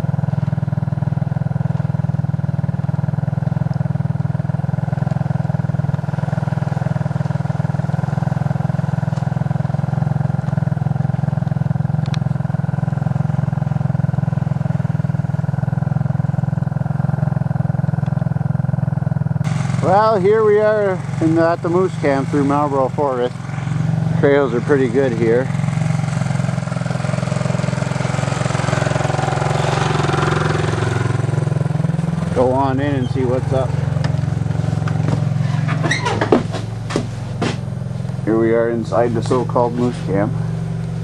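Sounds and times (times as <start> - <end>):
atv engine running steadily: 0.0 - 41.0.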